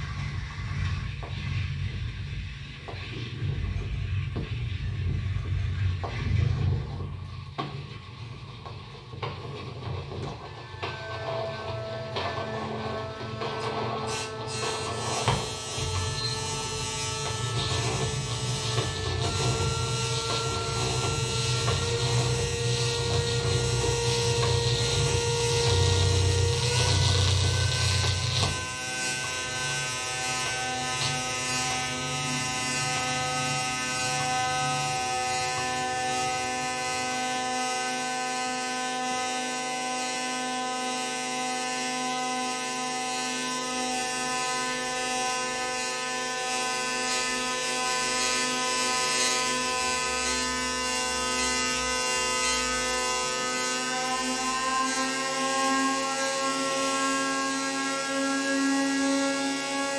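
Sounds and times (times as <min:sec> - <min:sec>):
hurdy-gurdy drone: 0:10.2 - 0:59.9.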